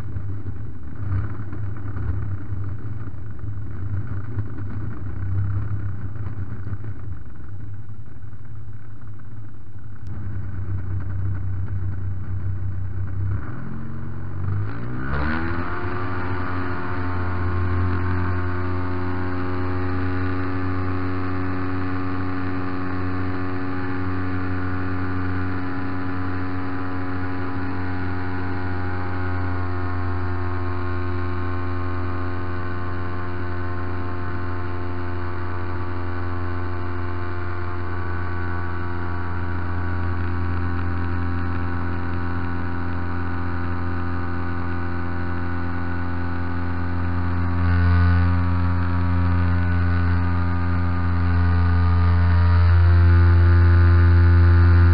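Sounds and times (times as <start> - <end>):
model plane engine running: 10.1 - 54.9.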